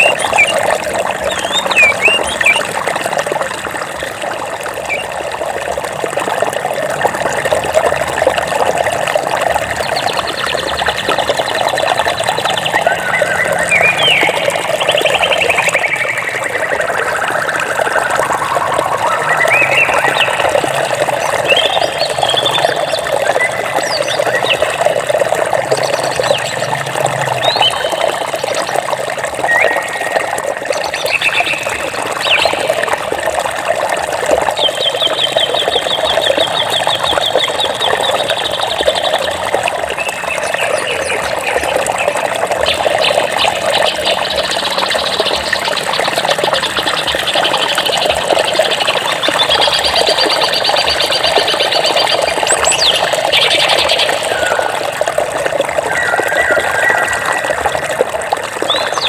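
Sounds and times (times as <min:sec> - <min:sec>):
birds chirping: 0:00.0 - 0:02.8, 0:04.9 - 0:05.1, 0:09.7 - 0:32.9, 0:34.4 - 0:55.2, 0:55.8 - 0:57.8, 0:58.6 - 0:59.0
flowing water: 0:00.0 - 0:59.0.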